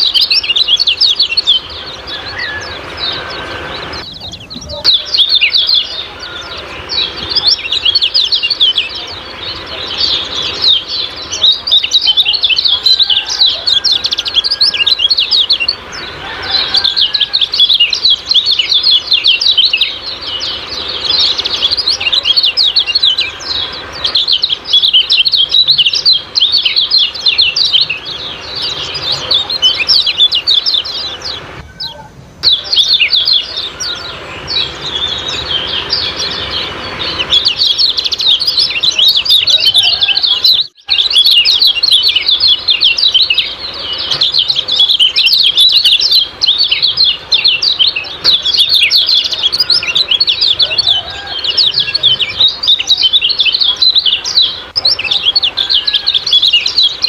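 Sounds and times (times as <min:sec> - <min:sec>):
songbird chirping rapidly: 0:00.0 - 0:57.0.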